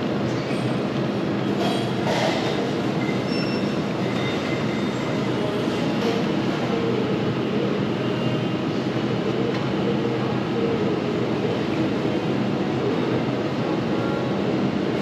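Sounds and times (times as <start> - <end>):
refrigerated cabinets humming: 0.0 - 15.0.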